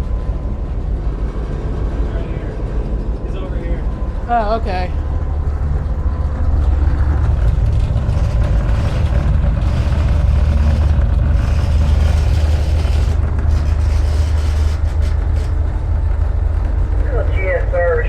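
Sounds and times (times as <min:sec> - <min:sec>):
diesel locomotive drone: 0:00.0 - 0:18.0.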